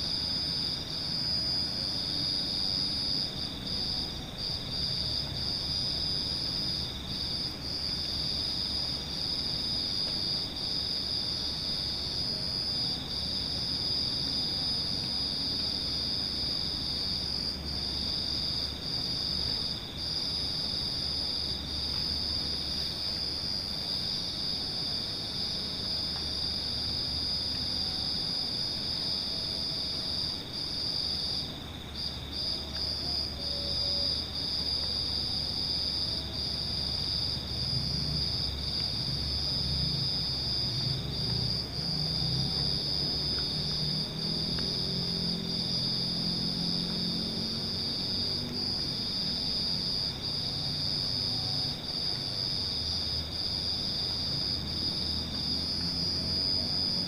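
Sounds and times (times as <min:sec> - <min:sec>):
night insects trilling: 0:00.0 - 0:57.0.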